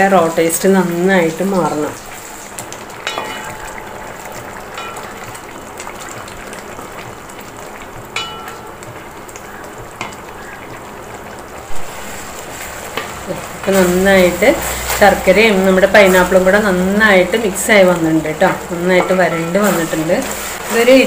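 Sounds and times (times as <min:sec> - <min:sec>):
mixture boiling and sizzling: 0:00.0 - 0:21.0.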